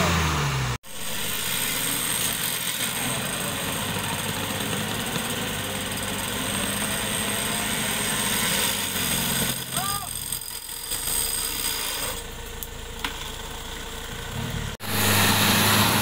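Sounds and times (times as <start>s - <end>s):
vehicle engine running: 0.0s - 11.1s, 12.2s - 16.0s.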